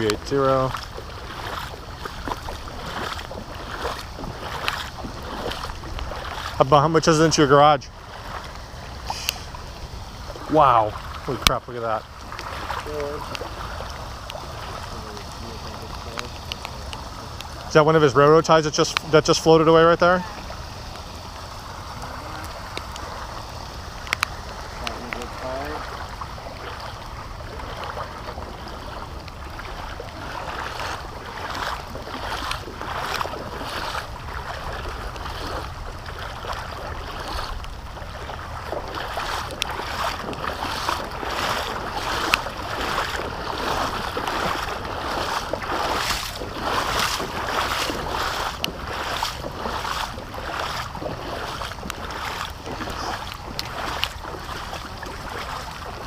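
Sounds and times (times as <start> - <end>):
floodwater rushing: 0.0 - 56.0
water splashing surges: 0.0 - 56.0.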